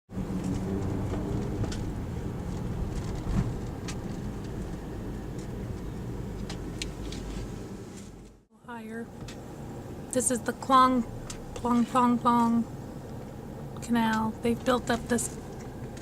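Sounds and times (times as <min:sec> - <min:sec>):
car engine and road noise: 0:00.1 - 0:16.0.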